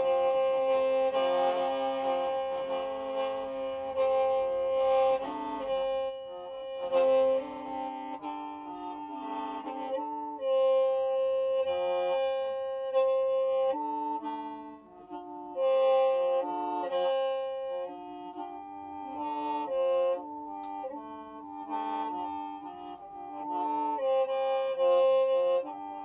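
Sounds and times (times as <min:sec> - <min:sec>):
free-reed mouth organ playing: 0:00.0 - 0:26.0.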